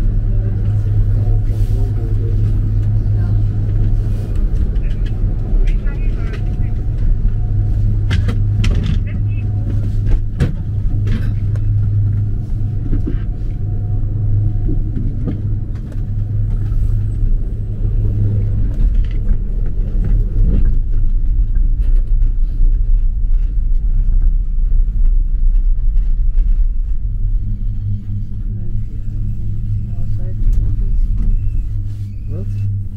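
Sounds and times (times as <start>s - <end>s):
gondola cabin rumble and hum: 0.0s - 32.9s.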